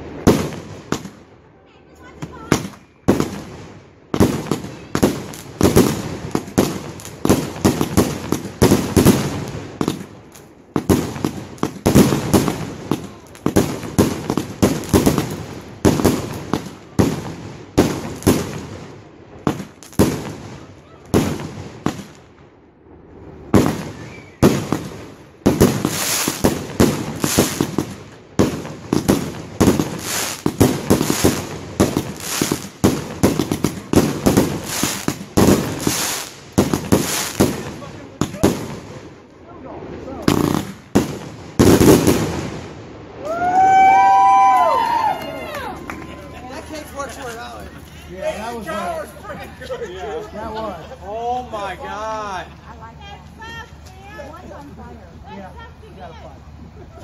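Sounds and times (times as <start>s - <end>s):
fireworks banging and crackling: 0.0s - 57.0s.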